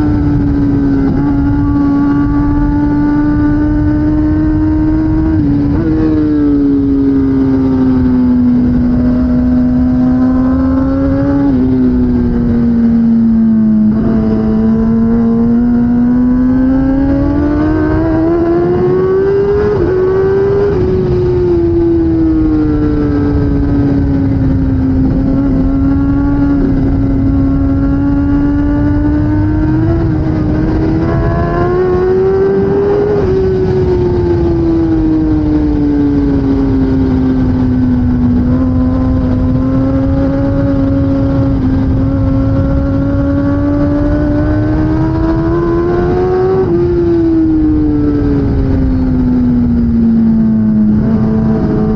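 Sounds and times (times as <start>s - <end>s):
motorcycle engine at racing speed: 0.0s - 51.9s
wind rush: 0.0s - 51.9s.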